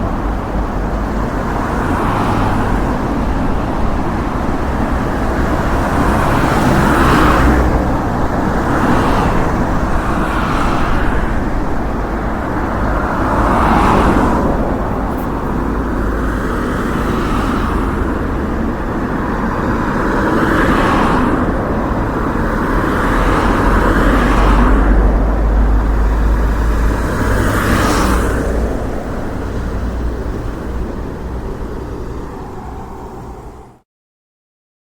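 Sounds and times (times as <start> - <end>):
cars passing: 0.0 - 33.8.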